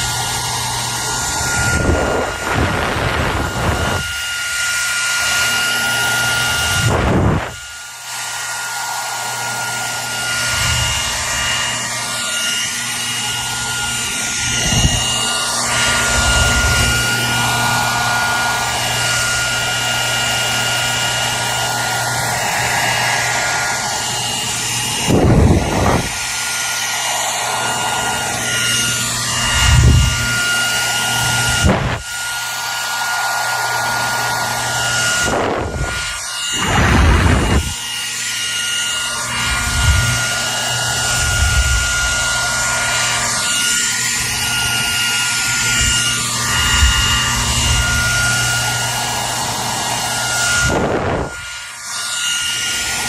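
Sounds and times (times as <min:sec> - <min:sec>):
hair dryer running: 0:00.0 - 0:53.0.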